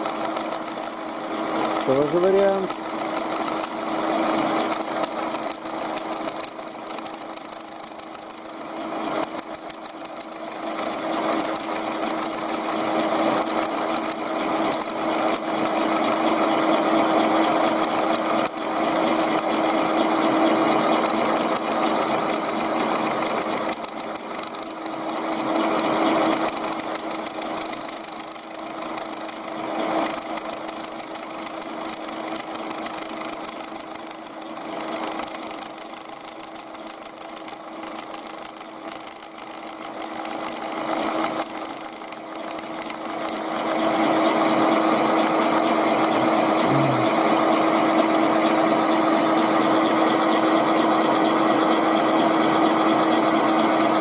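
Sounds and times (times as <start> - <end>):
milling machine motor hum: 0.0 - 53.2.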